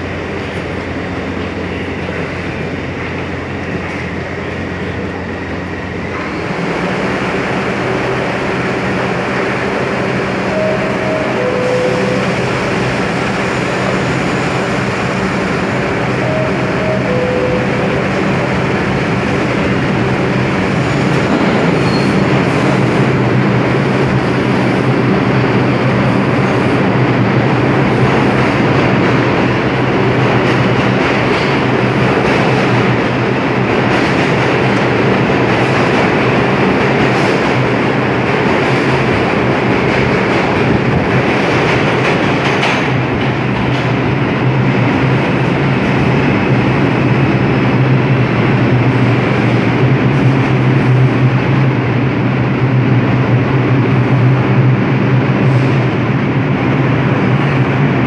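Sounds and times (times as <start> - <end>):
subway train accelerating: 0.0 - 58.0.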